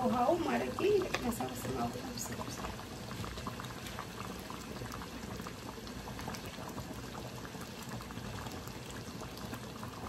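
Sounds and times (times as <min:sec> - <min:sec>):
pot of food boiling: 0:00.0 - 0:10.0.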